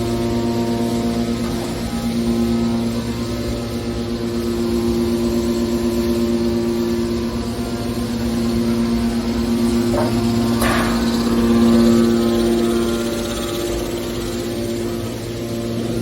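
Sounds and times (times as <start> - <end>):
baler pump and motor humming: 0.0 - 16.0.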